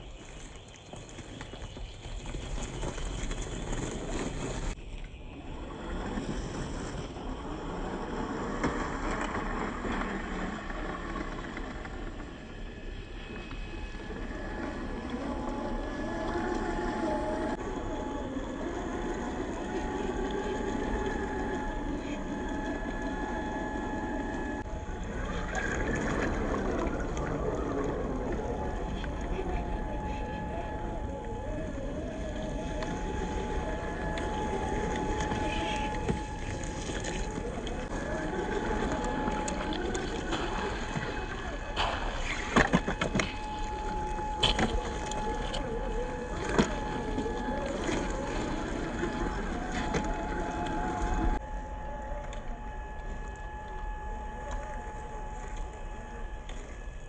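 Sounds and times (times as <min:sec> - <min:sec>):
rough rumbling noise: 0:00.0 - 0:57.0
electric motor whine: 0:02.6 - 0:57.0.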